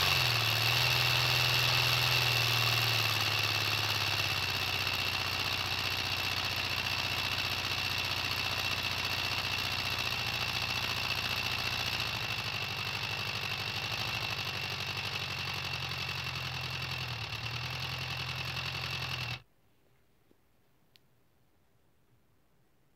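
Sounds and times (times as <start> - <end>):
model engine mechanical drone: 0.0 - 19.4.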